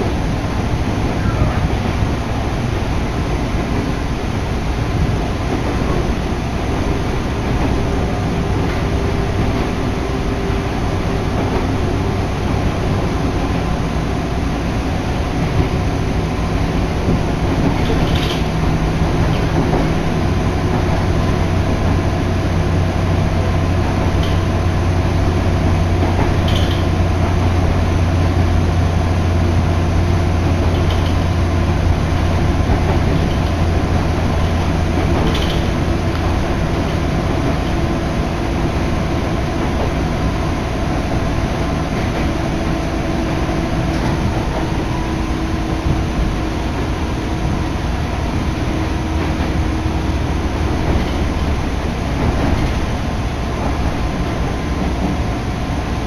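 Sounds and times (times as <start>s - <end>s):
electric train running: 0.0s - 56.0s.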